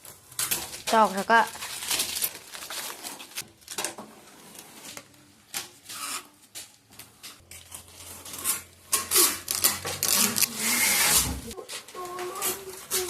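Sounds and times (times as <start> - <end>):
plastic packaging rustling and tearing: 0.0 - 6.8, 7.6 - 13.0.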